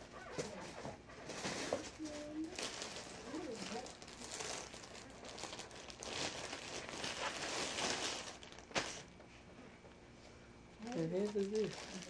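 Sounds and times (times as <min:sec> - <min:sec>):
plastic bag rustling and crinkling: 0:00.2 - 0:09.1, 0:10.8 - 0:12.0.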